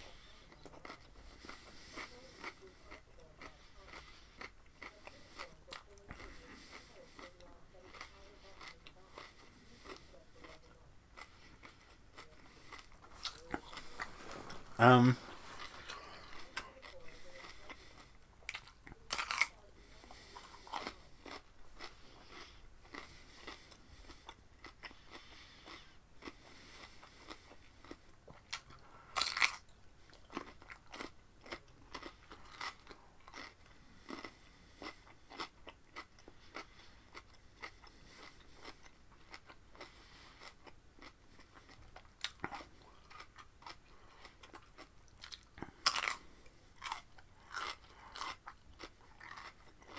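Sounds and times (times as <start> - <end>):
chewing crunchy cucumber: 0.1 - 49.9.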